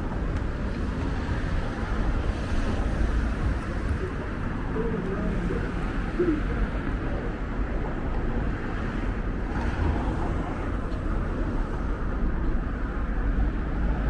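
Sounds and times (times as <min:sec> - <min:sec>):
vehicle and road rumble: 0:00.0 - 0:14.0.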